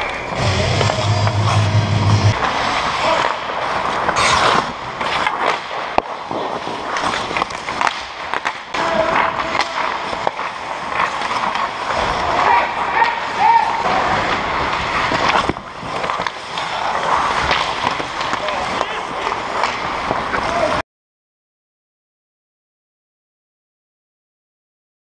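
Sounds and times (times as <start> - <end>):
hockey sticks and puck clacking: 0.0 - 20.8
skates scraping on ice: 0.0 - 20.8.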